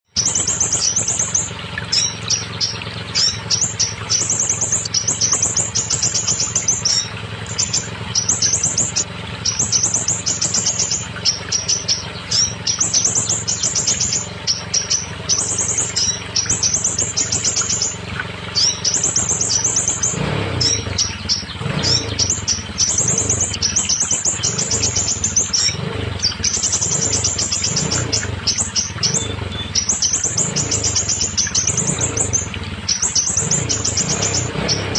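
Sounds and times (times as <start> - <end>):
bird chattering song: 0.0 - 34.9.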